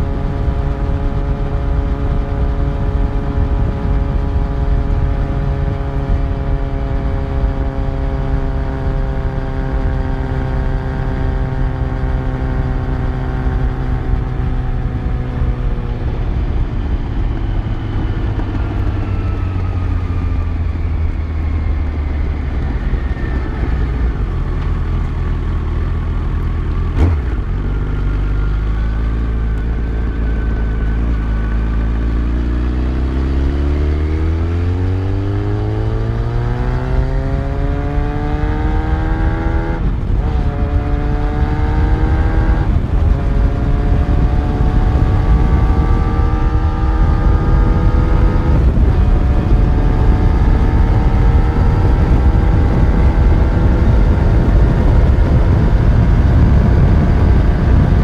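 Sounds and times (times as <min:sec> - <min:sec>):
motorcycle engine accelerating: 0:00.0 - 0:58.0
rushing wind: 0:00.0 - 0:58.0.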